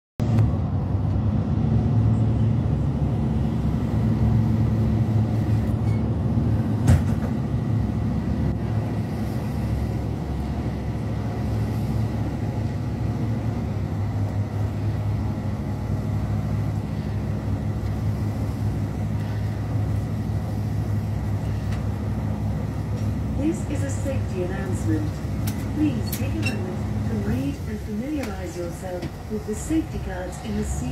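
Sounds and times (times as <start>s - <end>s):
boat engines droning: 0.5s - 30.9s.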